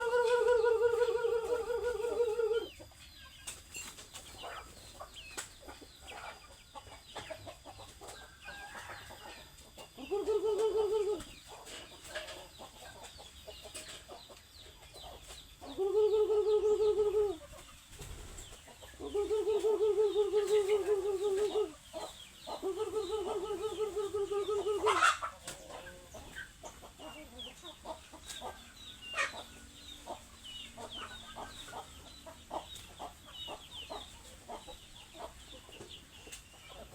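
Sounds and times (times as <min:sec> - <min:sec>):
chickens clucking: 0:00.0 - 0:36.9
long drawn-out chicken calls: 0:00.0 - 0:36.9.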